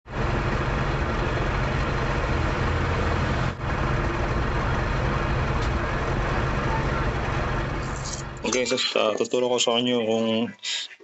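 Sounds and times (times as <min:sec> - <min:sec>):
car engine running steadily: 0:00.0 - 0:09.0.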